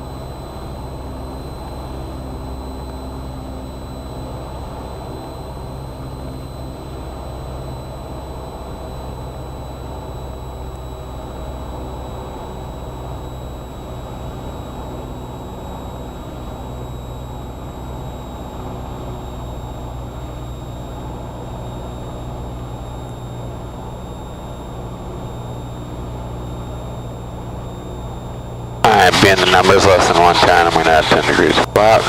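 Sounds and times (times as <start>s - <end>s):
propeller plane engine droning: 0.0s - 32.0s
thin high whine: 0.0s - 32.0s.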